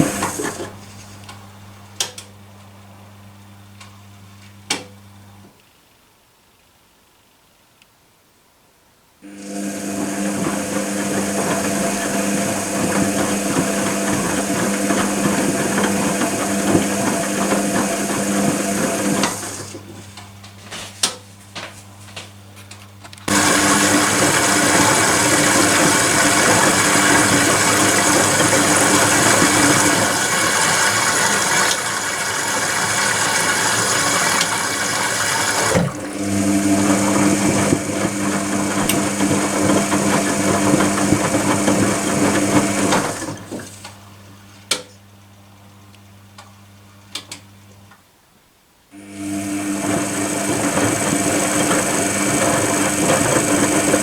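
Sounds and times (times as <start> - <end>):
washing machine motor hum: 0.0 - 5.4, 9.2 - 47.7, 49.0 - 54.0.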